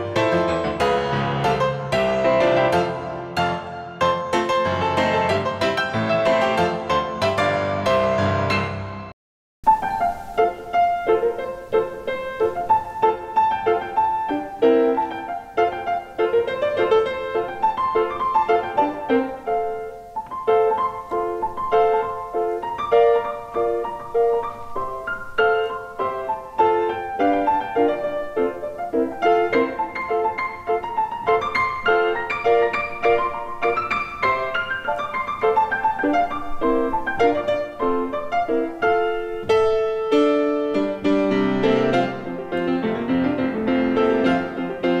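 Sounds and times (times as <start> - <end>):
piano background music: 0.0 - 45.0.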